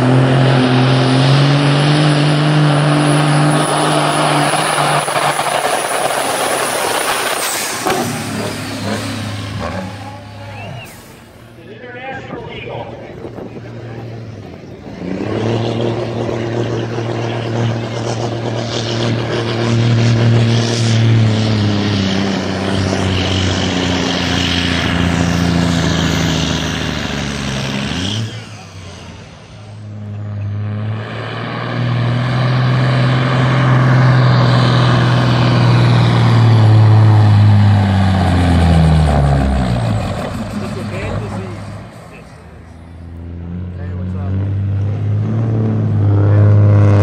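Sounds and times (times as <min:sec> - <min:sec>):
truck diesel engine under load: 0:00.0 - 0:47.0.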